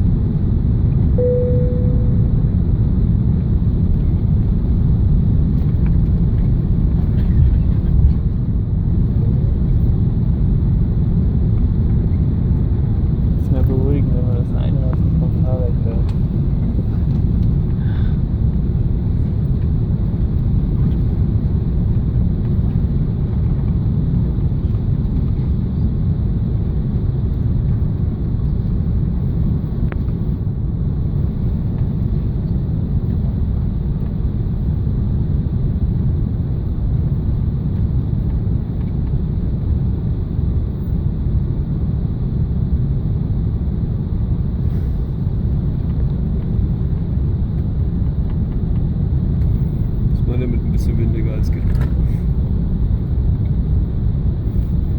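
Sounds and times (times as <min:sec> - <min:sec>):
aircraft cabin engine rumble: 0:00.0 - 0:54.9.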